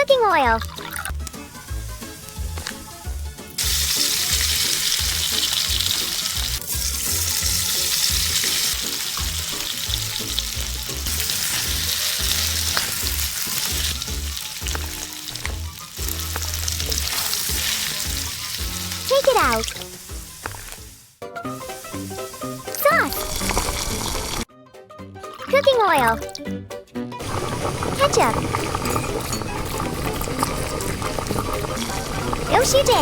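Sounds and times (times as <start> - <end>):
crab sizzling in hot oil: 0.8 - 24.5, 27.2 - 33.0.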